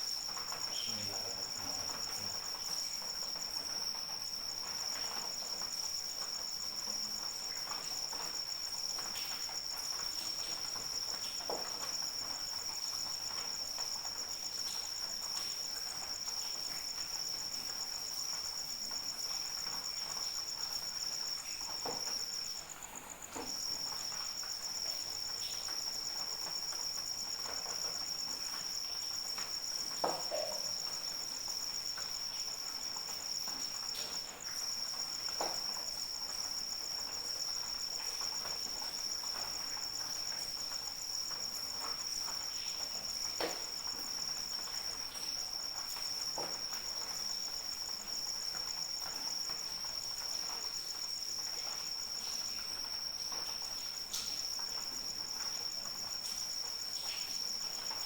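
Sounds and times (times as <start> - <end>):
faint rain: 0.0 - 58.0
high pulsed cricket trill: 0.0 - 58.0
lower cricket trill: 0.0 - 58.0.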